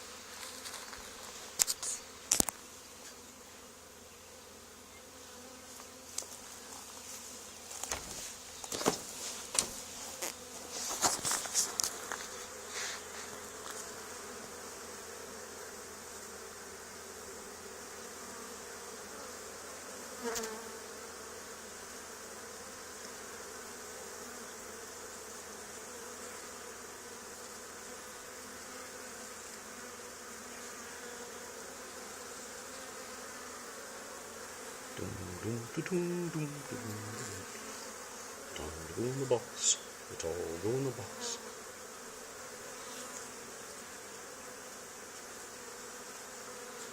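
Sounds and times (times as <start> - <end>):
honey bees buzzing: 0.0 - 46.9.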